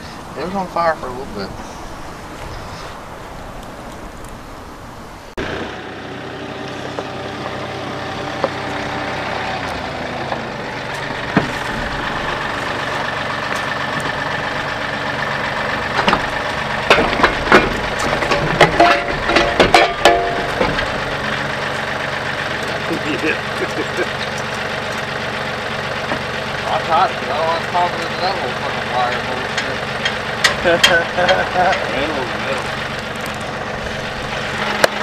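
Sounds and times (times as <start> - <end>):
tractor engine idling: 0.0 - 35.0
metal clanks and knocks: 6.7 - 35.0.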